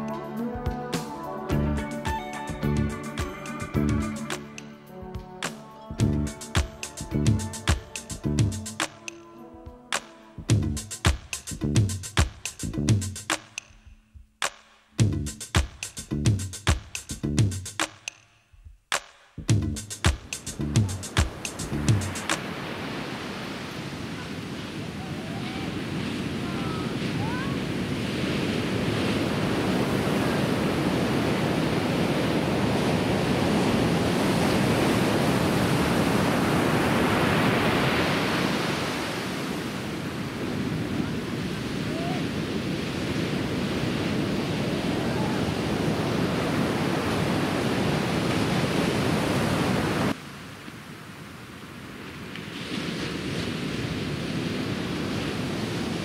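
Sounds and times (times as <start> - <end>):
ocean surf breaking: 0.0 - 11.5, 19.9 - 56.0.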